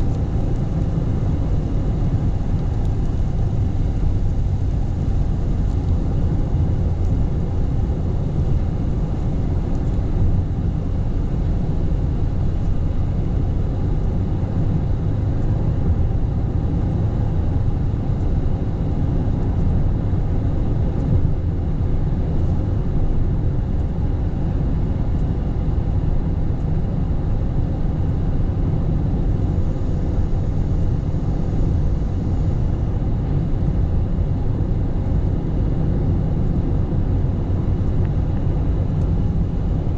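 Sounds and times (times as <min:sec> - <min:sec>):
car road noise on wet road: 0:00.0 - 0:39.9.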